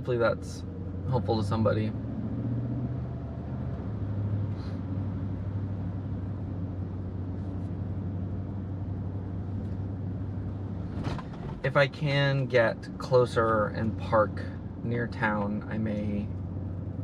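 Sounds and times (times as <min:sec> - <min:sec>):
car engine and tyres drone: 0:00.0 - 0:17.0.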